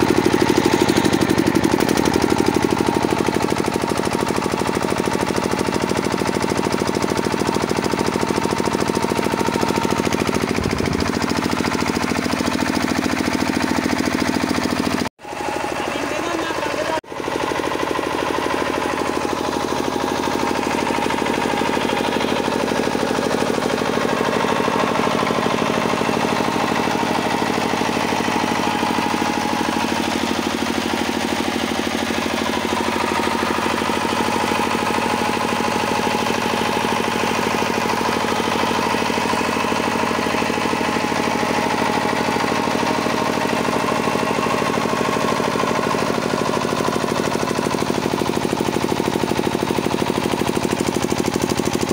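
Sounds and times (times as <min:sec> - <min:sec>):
diesel generator engine running: 0:00.0 - 0:51.9.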